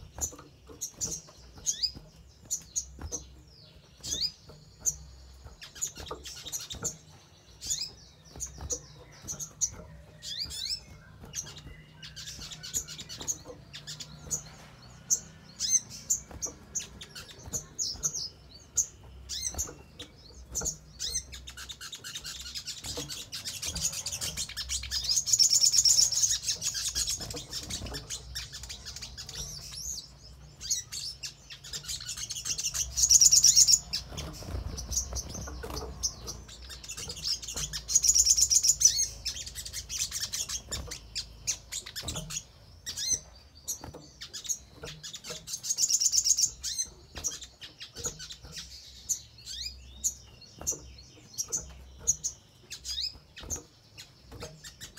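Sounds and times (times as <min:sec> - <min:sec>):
bird chirps and trilling song: 0:00.0 - 0:54.9.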